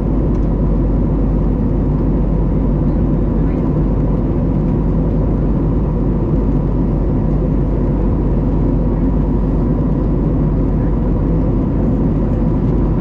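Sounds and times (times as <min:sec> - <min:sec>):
jet engines at climb power: 0:00.0 - 0:13.0.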